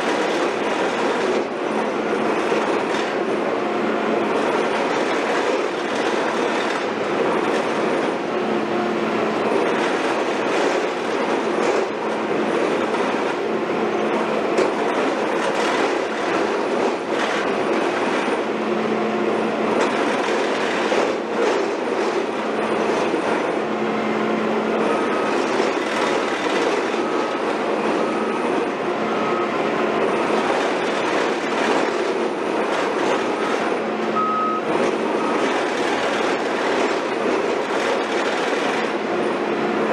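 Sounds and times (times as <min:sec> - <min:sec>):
heavy tracked machinery running: 0:00.0 - 0:39.9.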